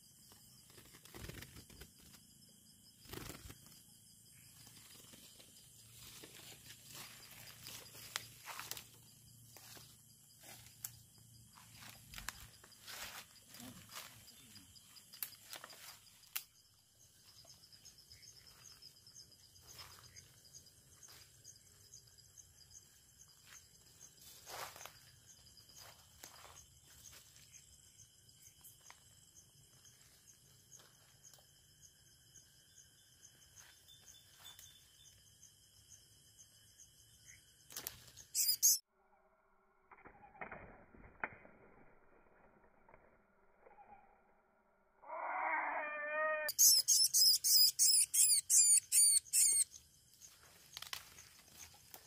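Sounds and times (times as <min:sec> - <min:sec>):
insect chirping: 0:00.0 - 0:40.4, 0:43.2 - 0:52.0.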